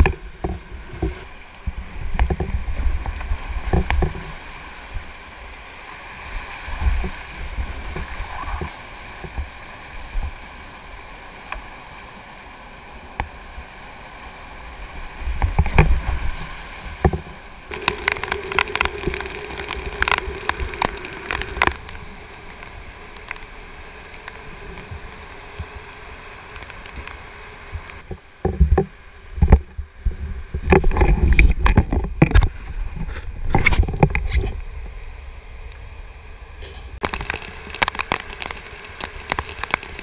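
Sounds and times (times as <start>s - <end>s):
whitewater rushing: 0.0s - 28.4s, 36.4s - 40.0s.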